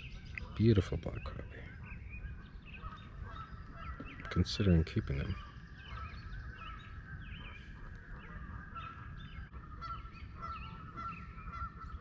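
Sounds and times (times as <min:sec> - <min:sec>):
frogs chirping: 0:00.0 - 0:12.0
frogs trilling: 0:00.0 - 0:12.0.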